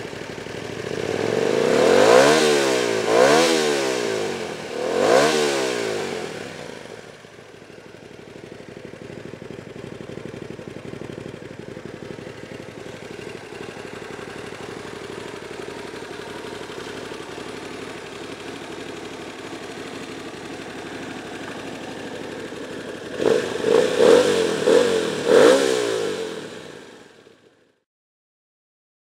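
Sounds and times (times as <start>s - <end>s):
motorcycle engine idling and revving: 0.0s - 27.8s.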